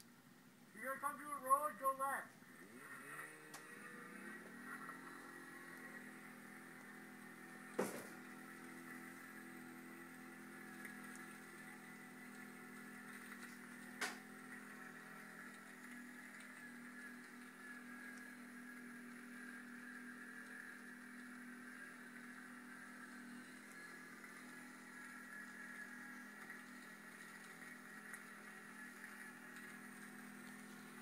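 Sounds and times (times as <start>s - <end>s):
engine running: 0.8s - 31.0s.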